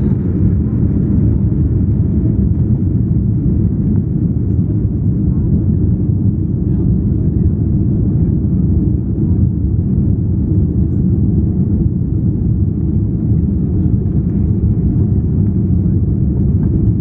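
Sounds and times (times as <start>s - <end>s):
aircraft engine noise: 0.0s - 17.0s.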